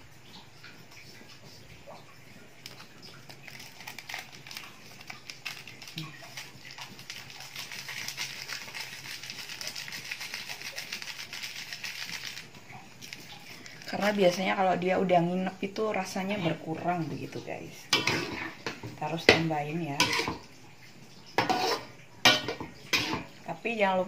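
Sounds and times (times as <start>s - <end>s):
food sizzling in a wok: 2.3s - 20.6s, 21.3s - 24.0s.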